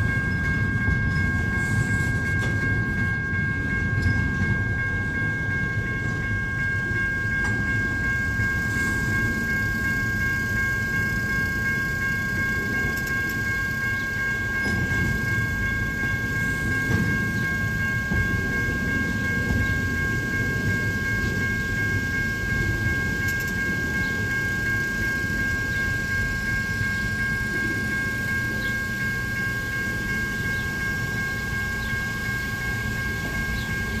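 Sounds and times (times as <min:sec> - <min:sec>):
freight train cars rolling past: 0:00.0 - 0:34.0
high-pitched whine: 0:00.0 - 0:34.0.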